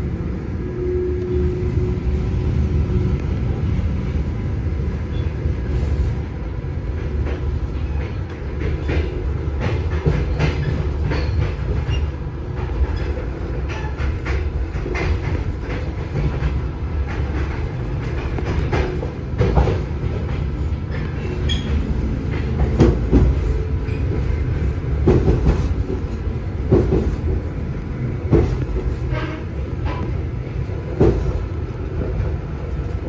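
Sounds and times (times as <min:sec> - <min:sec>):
train carriage rumbling on track: 0:00.0 - 0:33.0.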